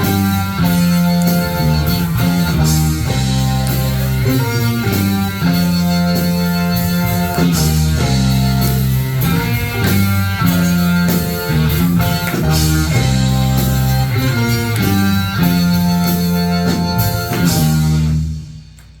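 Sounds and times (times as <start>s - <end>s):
rock music with guitar and drums: 0.0s - 18.7s.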